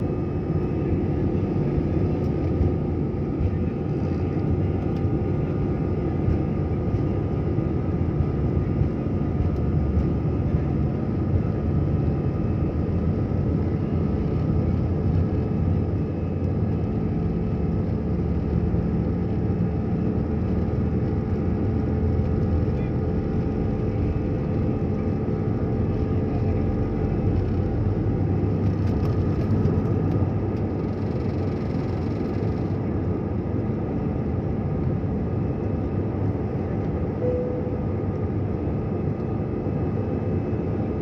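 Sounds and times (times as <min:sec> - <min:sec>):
faint engine whine: 0:00.0 - 0:41.0
jet engines rumbling: 0:00.0 - 0:41.0.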